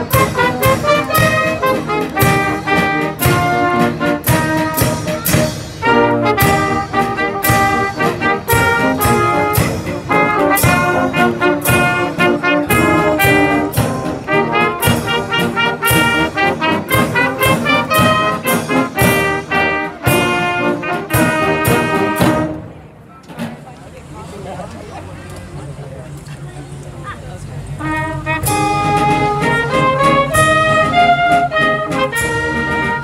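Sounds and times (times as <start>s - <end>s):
brass band playing: 0.0s - 22.9s, 27.7s - 33.0s
drums striking a steady beat: 0.0s - 23.8s, 27.9s - 33.0s.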